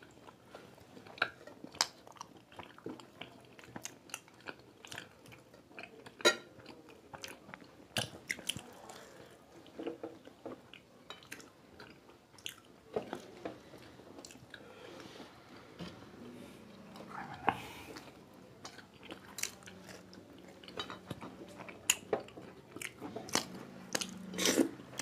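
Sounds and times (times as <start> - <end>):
people chewing crisp food: 0.0 - 25.0.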